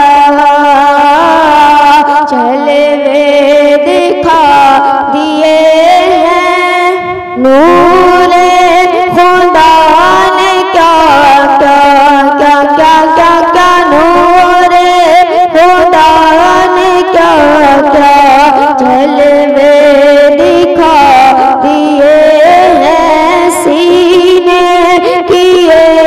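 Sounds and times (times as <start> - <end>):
boy singing through a microphone: 0.0 - 26.0.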